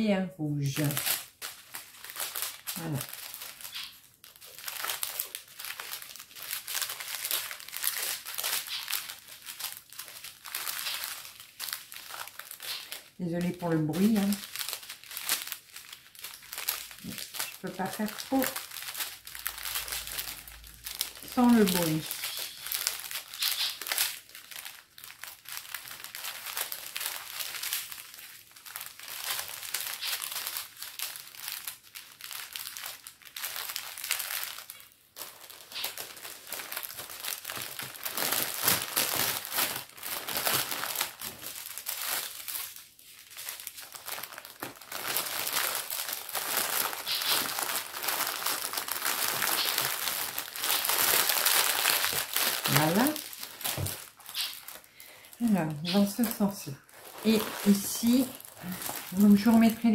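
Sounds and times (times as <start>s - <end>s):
plastic packaging crinkling: 0.0s - 59.9s.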